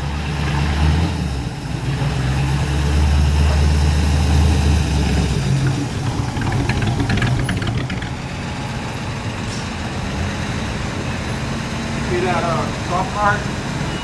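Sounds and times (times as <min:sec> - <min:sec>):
car engine rumble passing: 0:00.0 - 0:13.9.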